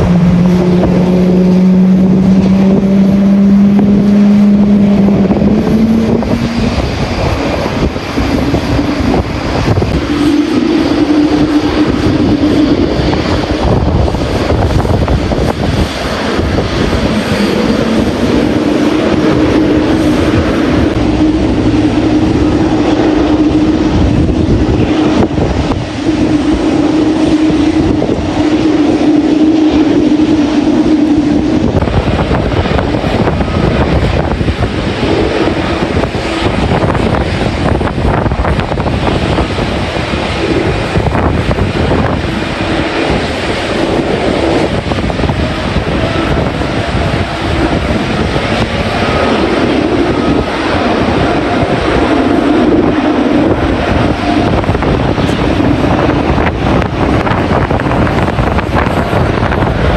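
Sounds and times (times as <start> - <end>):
jet engines roaring: 0.0 - 59.9
steady humming tone: 0.0 - 59.9
wind buffeting microphone: 0.0 - 59.9.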